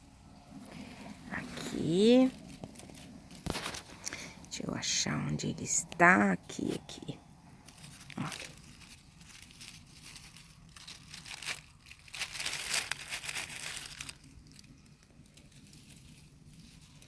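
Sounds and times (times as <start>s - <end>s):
dry leaves rustling and crunching: 0.3s - 17.0s.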